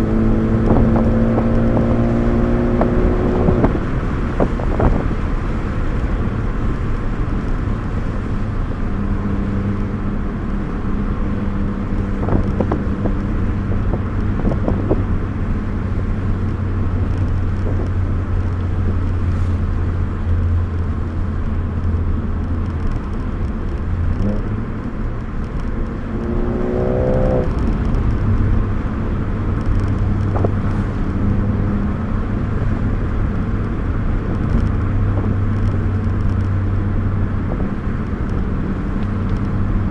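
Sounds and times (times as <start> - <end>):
engine revving: 0.0 - 20.9, 23.9 - 39.9
car engine drone: 0.0 - 39.9
tyre noise: 0.0 - 39.9.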